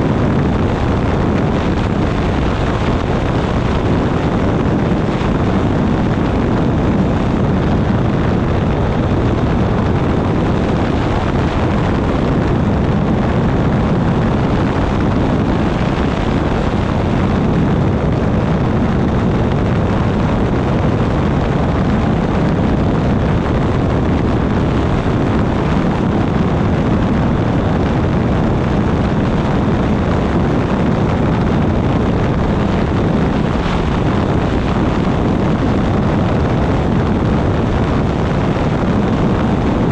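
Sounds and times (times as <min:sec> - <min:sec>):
engine drone: 0:00.0 - 0:39.9
wind rushing over microphone: 0:00.0 - 0:39.9.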